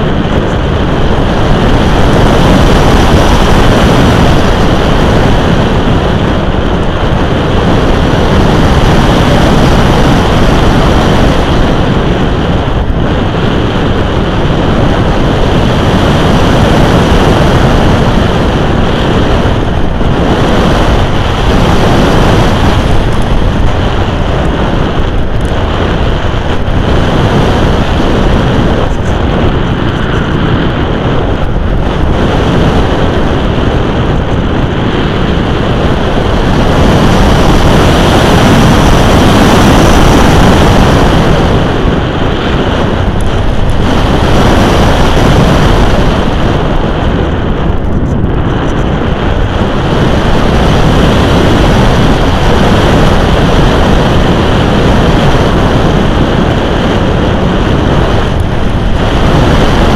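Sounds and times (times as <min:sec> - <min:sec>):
airflow rushing over microphone: 0:00.0 - 0:59.9.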